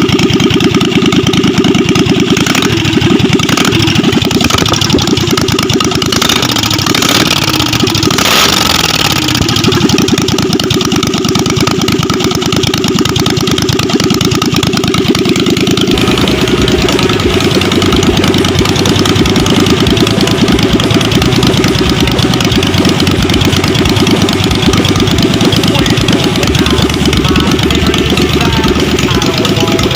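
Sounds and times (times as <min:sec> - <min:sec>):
v-twin engine running: 0:00.0 - 0:29.9.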